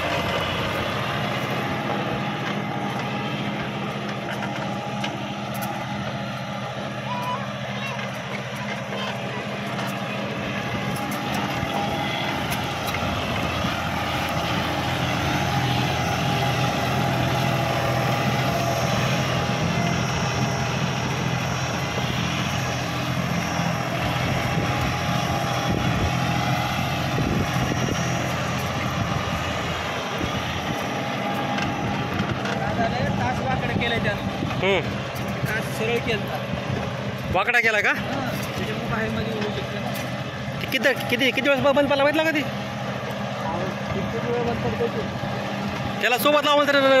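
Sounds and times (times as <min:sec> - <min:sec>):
tractor diesel engine under load: 0:00.0 - 0:47.0.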